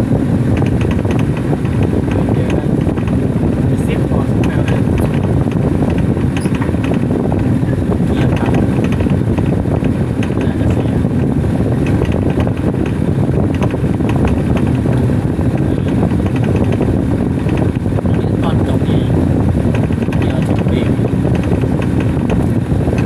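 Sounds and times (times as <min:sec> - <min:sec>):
very loud noise: 0:00.0 - 0:23.0
washing machine spinning: 0:00.0 - 0:23.0.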